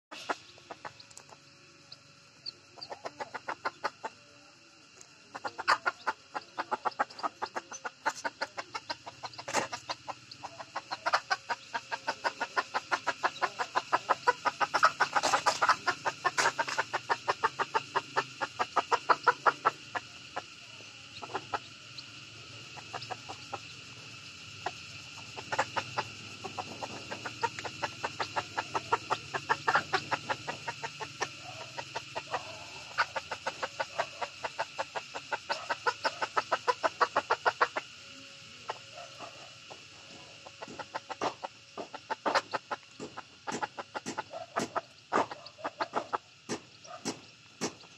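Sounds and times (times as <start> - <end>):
hen clucking: 0.1 - 47.9.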